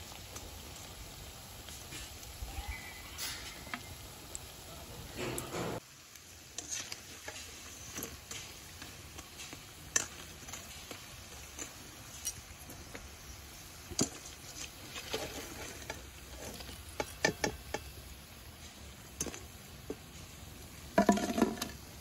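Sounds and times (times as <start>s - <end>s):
fritters sizzling in hot oil: 0.0s - 22.0s.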